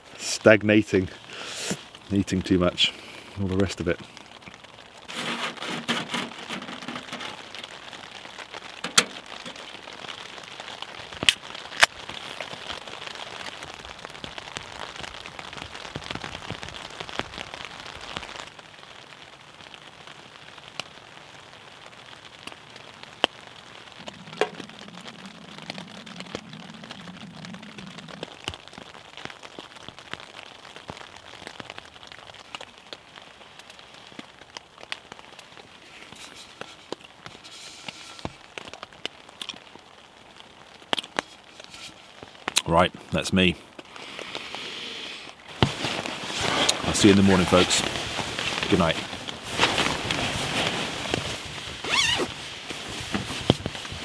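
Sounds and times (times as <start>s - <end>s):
rain pattering on tent fabric: 0.0s - 54.0s.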